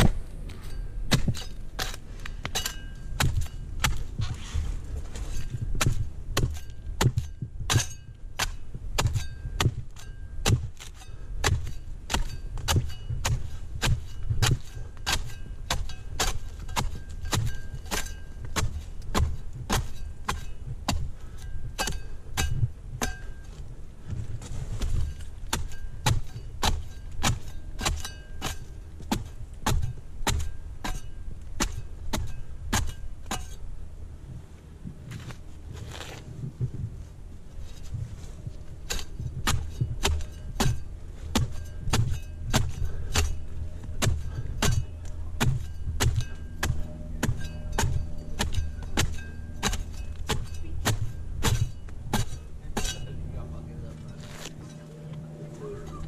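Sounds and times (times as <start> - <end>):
pruning blade chopping palm fronds: 0.0 - 4.6, 5.2 - 23.6, 24.8 - 33.6, 38.7 - 56.0.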